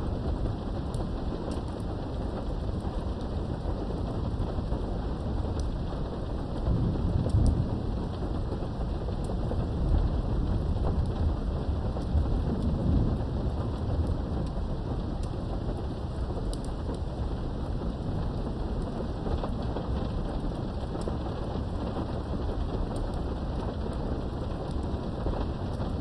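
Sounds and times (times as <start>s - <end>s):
low thunder rumbles: 0.0s - 26.0s
steady rain: 0.0s - 26.0s.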